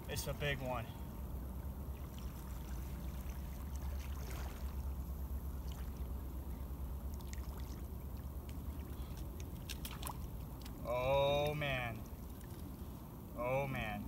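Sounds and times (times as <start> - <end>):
river water washing: 1.9 - 13.2.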